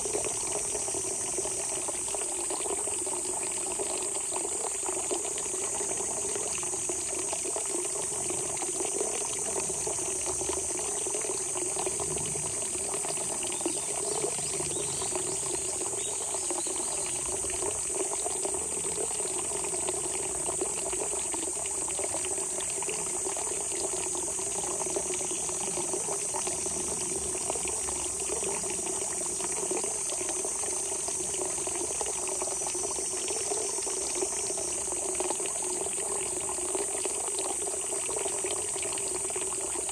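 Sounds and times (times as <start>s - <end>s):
high-pitched insect chorus: 0.0s - 39.9s
spring water gushing and gurgling: 0.0s - 39.9s.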